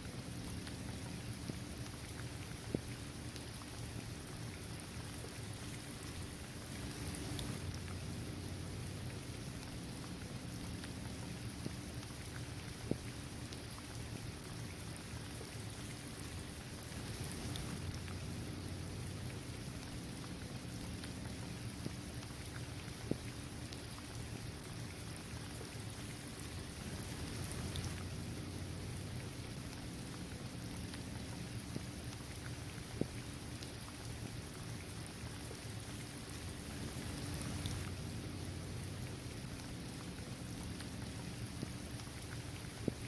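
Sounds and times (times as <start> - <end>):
steady rain patter: 0.0 - 43.0.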